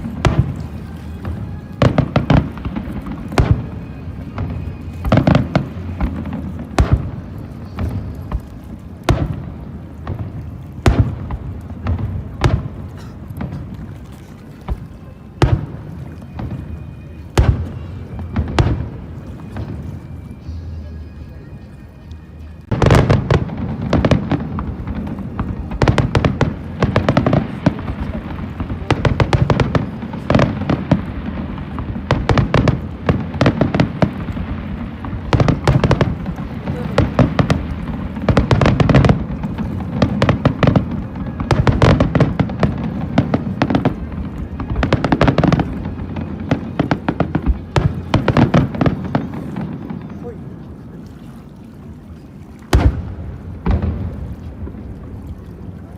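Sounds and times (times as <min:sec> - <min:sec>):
fireworks bangs and crackles: 0:00.0 - 0:21.0, 0:22.6 - 0:51.0, 0:52.7 - 0:55.9.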